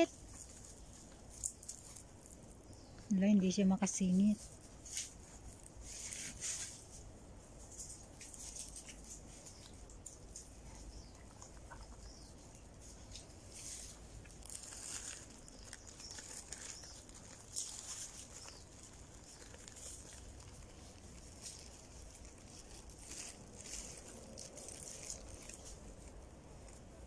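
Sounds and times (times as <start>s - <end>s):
rustling in dry leaf litter: 0.0s - 27.0s.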